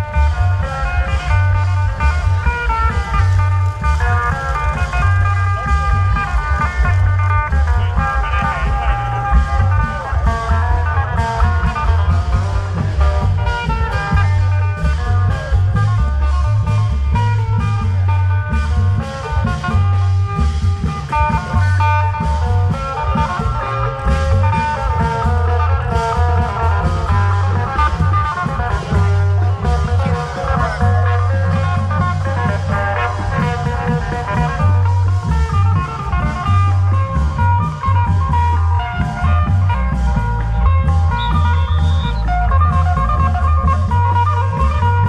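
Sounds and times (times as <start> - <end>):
deep bass: 0.0 - 45.0
long-drum procession band music: 0.0 - 45.0
melodic lead line: 0.0 - 45.0
steady drum strokes: 0.0 - 45.0.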